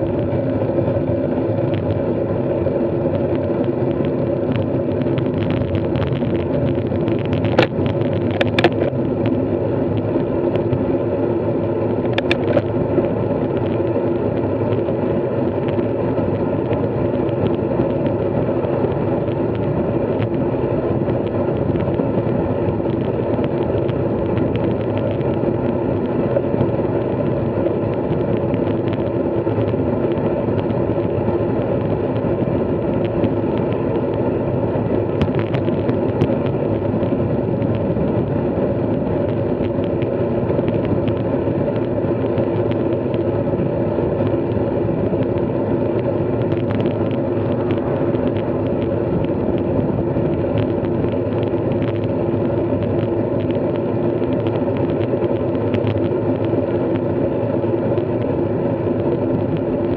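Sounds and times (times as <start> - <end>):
constant drone: 0.0 - 59.9
wind and road noise: 0.0 - 59.9.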